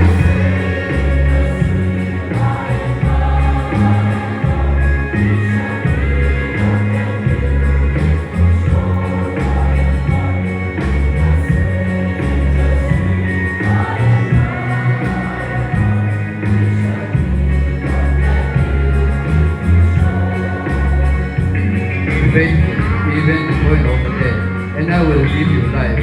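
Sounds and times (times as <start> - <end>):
amplified accompaniment: 0.0 - 26.0
heavy bass line: 0.0 - 26.0.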